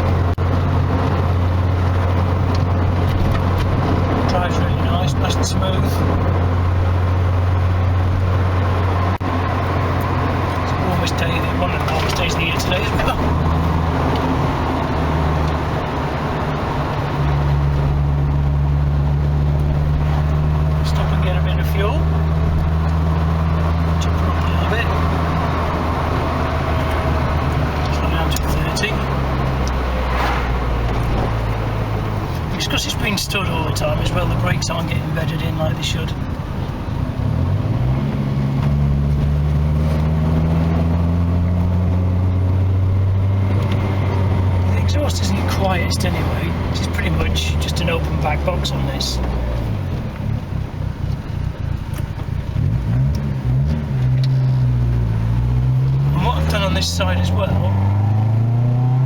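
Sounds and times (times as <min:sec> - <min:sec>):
car engine and exhaust drone: 0:00.0 - 0:59.0.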